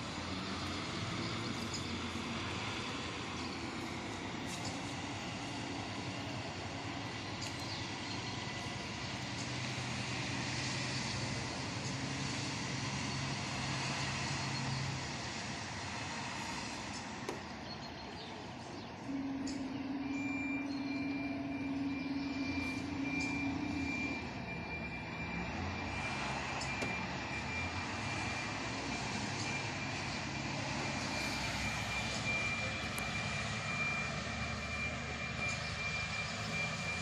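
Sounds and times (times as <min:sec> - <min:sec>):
fire engine diesel engine: 0:00.0 - 0:37.0.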